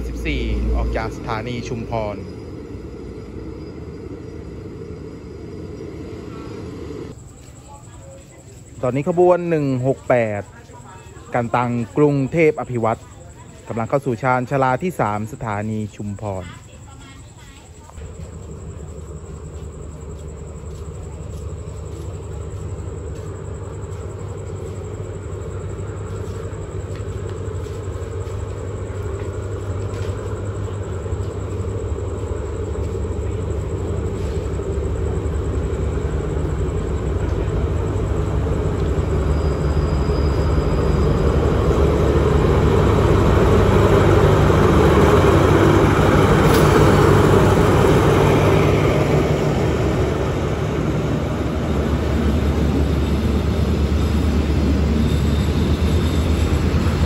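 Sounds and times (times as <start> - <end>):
train wheels rumbling: 0.0 - 7.5, 17.4 - 57.0
locomotive engine drone: 0.0 - 8.0, 8.7 - 57.0.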